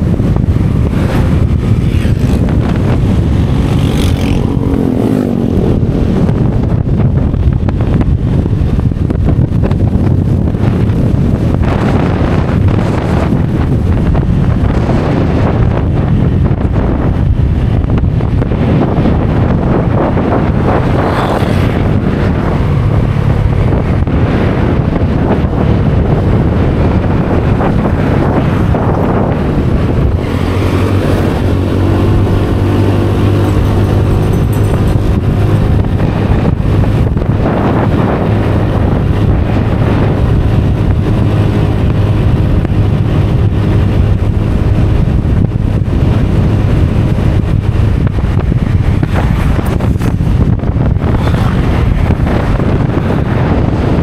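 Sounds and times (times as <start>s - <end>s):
scooter engine hum: 0.0s - 54.0s
wind buffeting microphone: 0.0s - 54.0s.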